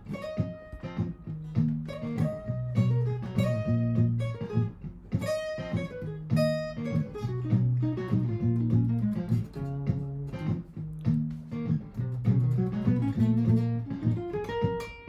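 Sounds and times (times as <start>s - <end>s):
picked guitar notes: 0.0s - 15.0s
strummed acoustic guitar chords: 0.0s - 15.0s.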